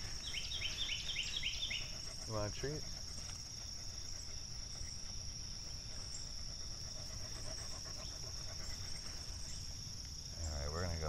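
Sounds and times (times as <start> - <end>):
dog panting: 0.0 - 9.7
crickets chirring: 0.0 - 11.0.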